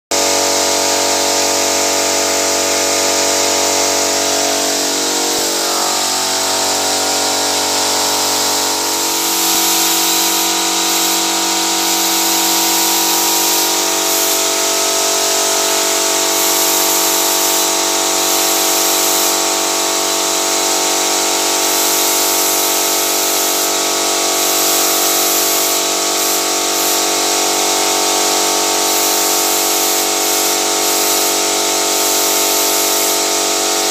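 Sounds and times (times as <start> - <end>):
spray machine motor hum: 0.2 - 33.9
spray gun hissing: 1.9 - 33.9.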